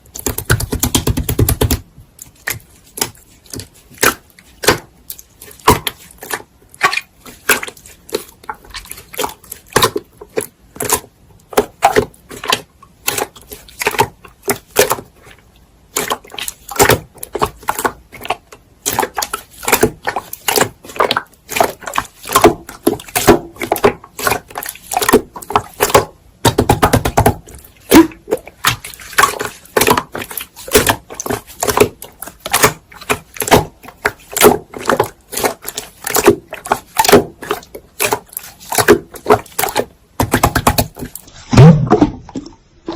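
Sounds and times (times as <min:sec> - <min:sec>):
slime clicking and popping: 0:00.1 - 0:42.5.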